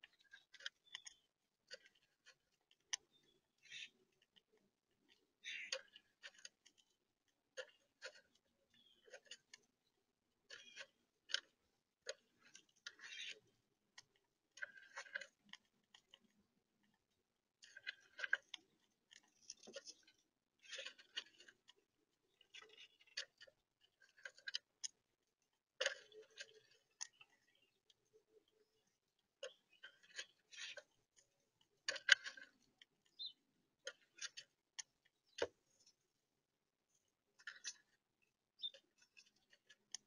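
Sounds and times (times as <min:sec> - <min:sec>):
squirrel chewing food: 0:00.0 - 0:40.0.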